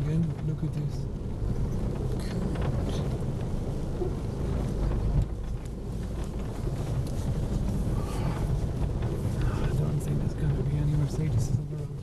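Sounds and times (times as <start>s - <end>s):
low engine drone: 0.0s - 12.0s
tyres rumbling on loose stones: 0.0s - 12.0s.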